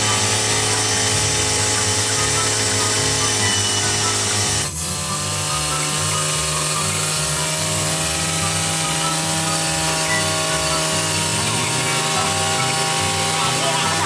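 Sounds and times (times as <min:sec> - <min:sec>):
brush cutter engine running: 0:00.0 - 0:14.0
disc head trimming grass: 0:00.0 - 0:14.0.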